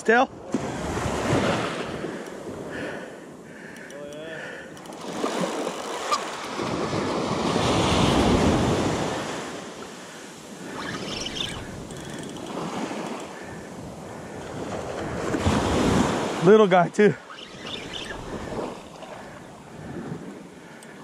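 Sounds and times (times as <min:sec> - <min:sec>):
ocean surf breaking: 0:00.5 - 0:21.0.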